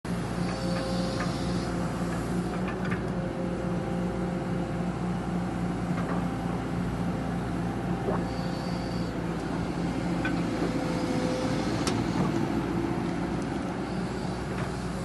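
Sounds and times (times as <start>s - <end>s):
excavator diesel engine running: 0.1s - 15.0s.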